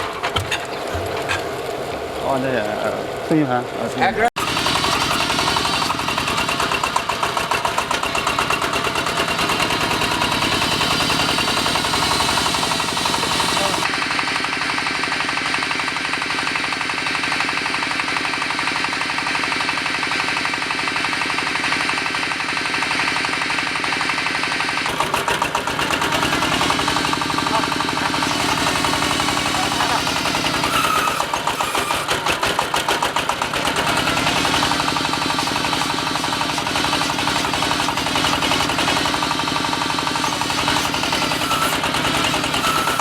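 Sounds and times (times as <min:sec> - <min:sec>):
diesel engine clattering: 0:04.4 - 0:43.0.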